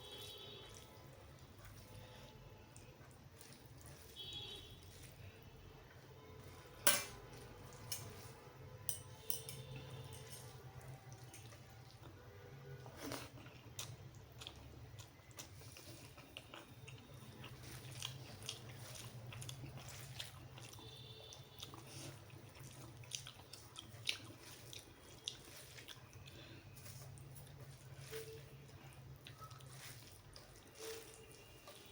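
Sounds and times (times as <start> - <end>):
wet chewing mouth sounds: 0.0 - 6.0, 9.8 - 12.2, 12.8 - 31.9.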